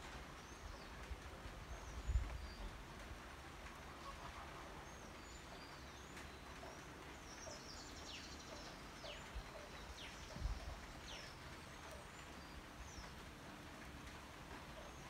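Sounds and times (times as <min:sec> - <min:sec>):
rain falling on foliage: 0:00.0 - 0:15.0.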